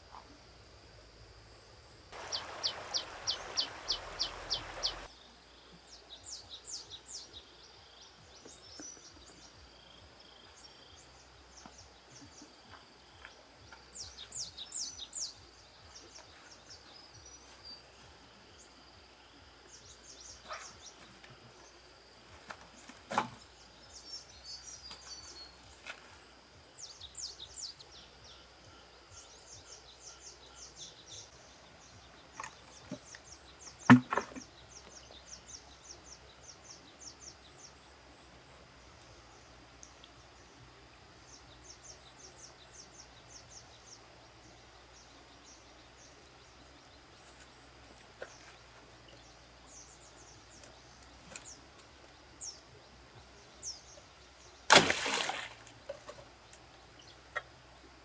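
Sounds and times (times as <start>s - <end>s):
small birds chirping: 2.1s - 58.0s.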